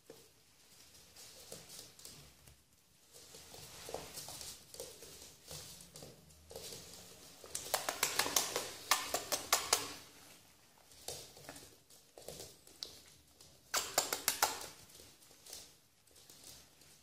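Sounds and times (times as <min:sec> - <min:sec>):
puppy claws scrabbling on hard floor: 0:00.0 - 0:17.0.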